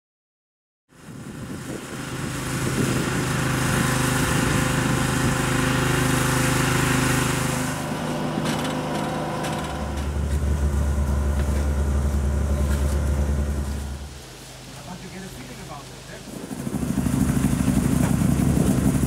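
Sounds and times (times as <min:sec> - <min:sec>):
engine running: 0:00.9 - 0:19.0.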